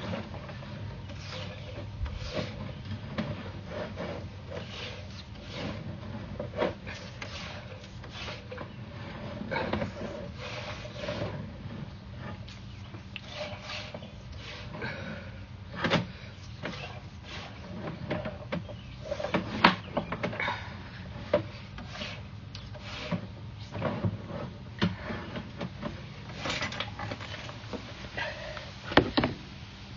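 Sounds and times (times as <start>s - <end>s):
cable and reel knocking and rubbing: 0.0s - 28.2s
steady low hum: 0.0s - 29.9s.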